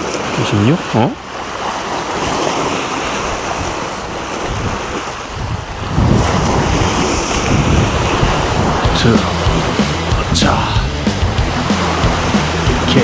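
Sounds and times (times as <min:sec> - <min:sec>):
sea waves washing: 0:00.0 - 0:13.0
wind buffeting microphone: 0:01.5 - 0:13.0.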